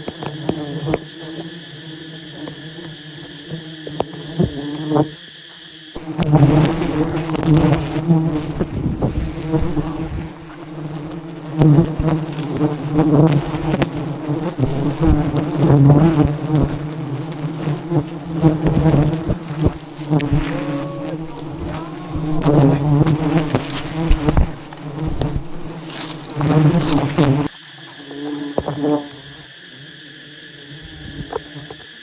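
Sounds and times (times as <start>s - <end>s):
bees buzzing loudly: 0.0s - 5.2s, 5.9s - 32.0s.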